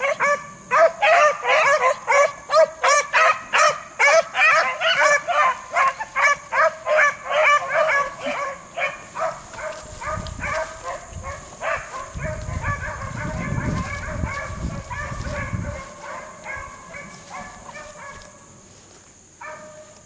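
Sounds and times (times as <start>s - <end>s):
dogs baying and yelping: 0.0s - 18.4s.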